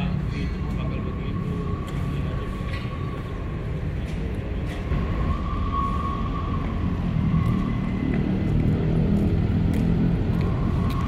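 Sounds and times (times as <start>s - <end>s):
low urban rumble: 0.0s - 11.0s.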